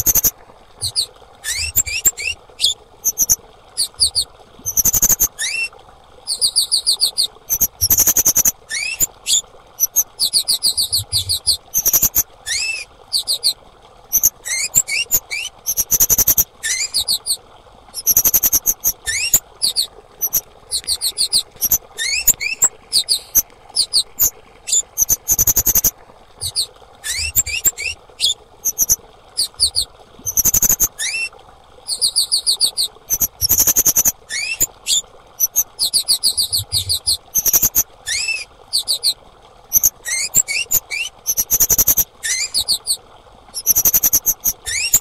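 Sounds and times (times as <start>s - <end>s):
bird high thin chirps and trills: 0.0s - 5.7s, 6.3s - 17.4s, 18.0s - 31.3s, 31.9s - 39.2s, 39.8s - 42.9s, 43.6s - 45.0s.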